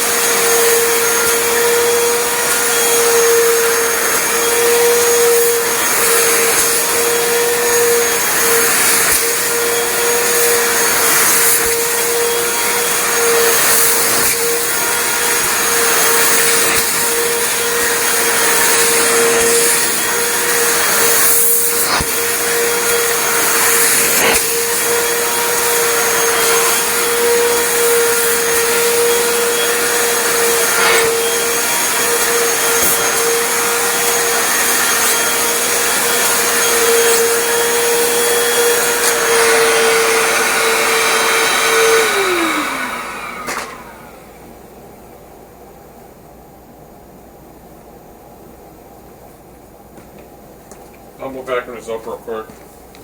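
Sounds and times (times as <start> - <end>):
floor cleaner motor whine: 0.0 - 45.0.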